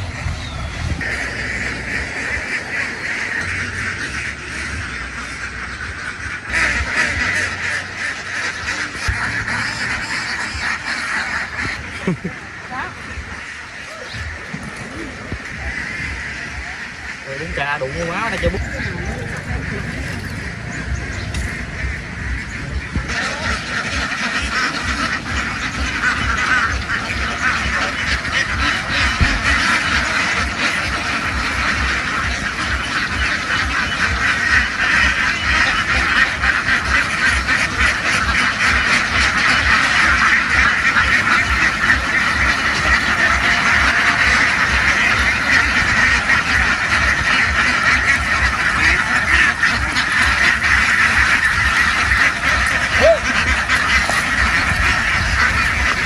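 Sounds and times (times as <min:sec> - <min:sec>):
flock of ducks quacking: 0:00.0 - 0:56.0
low rumble: 0:00.0 - 0:56.0.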